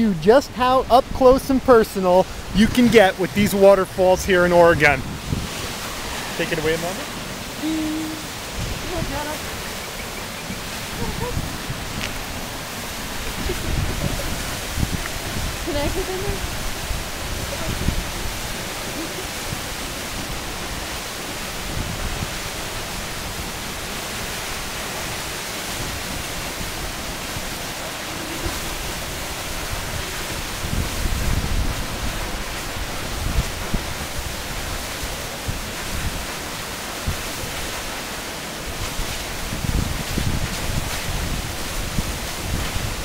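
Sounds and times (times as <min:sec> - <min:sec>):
waterfall rushing: 0:00.0 - 0:43.0
wind buffeting microphone: 0:01.0 - 0:37.8, 0:38.7 - 0:43.0.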